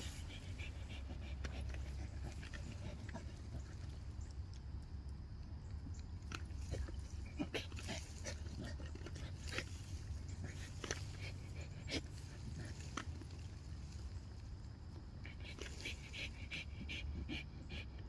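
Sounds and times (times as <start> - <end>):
dog breathing and mouth sounds: 0.0 - 14.0, 14.9 - 18.0
steady low rumble: 0.0 - 18.0.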